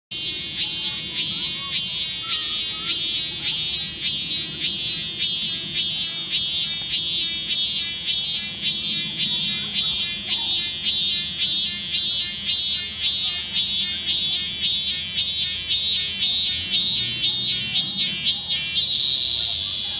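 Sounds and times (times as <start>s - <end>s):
cicada singing: 0.1s - 19.9s.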